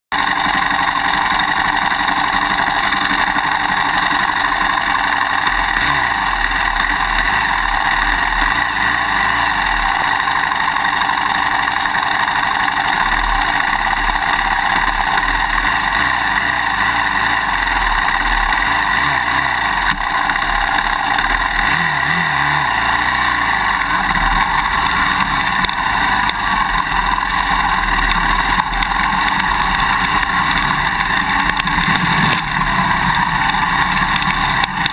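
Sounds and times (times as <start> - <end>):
dirt bike engine running: 0.0 - 34.9.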